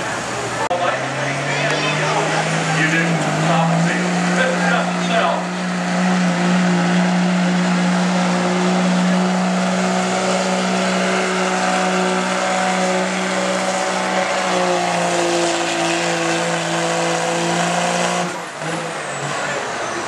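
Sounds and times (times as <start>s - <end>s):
diesel engine at full throttle: 0.0s - 20.0s.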